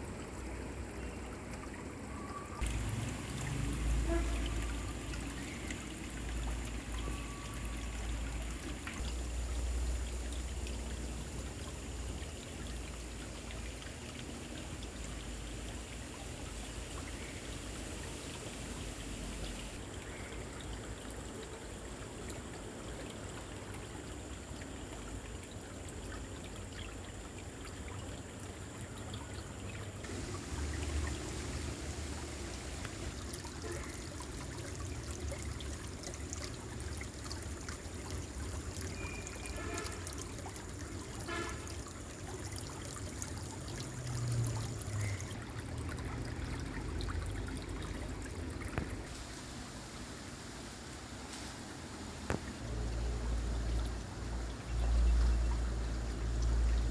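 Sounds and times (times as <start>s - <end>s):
water flowing: 0.0s - 56.9s.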